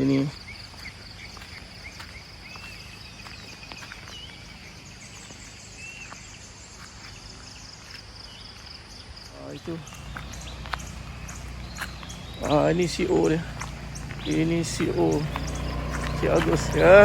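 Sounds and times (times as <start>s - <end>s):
birds whistled calls: 0.0s - 17.0s
insects buzzing trill: 0.0s - 17.0s.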